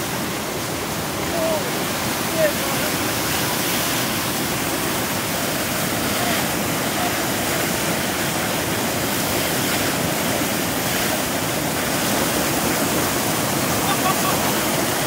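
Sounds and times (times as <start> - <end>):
rushing churning river water: 0.0 - 15.0.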